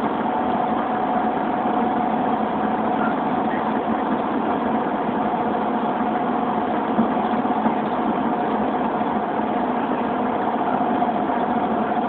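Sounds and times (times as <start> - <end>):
engine drone inside van: 0.0 - 12.0.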